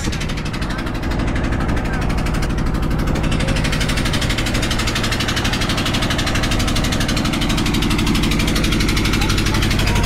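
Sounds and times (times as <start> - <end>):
boat engine pulsing softly: 0.0 - 10.0.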